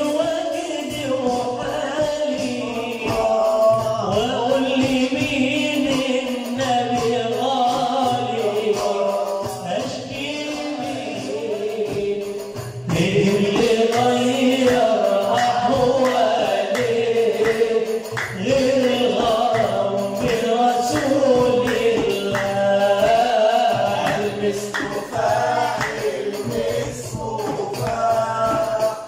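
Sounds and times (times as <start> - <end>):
frame drum beating: 0.0 - 29.0
man singing devotional song: 0.0 - 29.0
men's voices singing along: 0.0 - 29.0.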